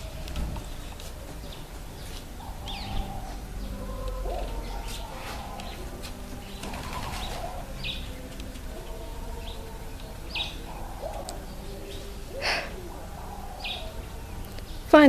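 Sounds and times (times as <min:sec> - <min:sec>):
coo-like bird calls: 0:00.0 - 0:14.9
birds chirping: 0:00.0 - 0:15.0.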